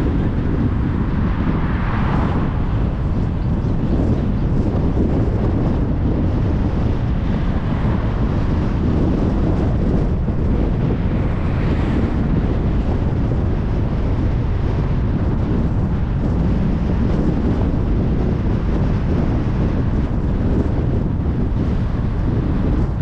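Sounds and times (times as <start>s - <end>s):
car road noise at highway speed: 0.0s - 23.0s.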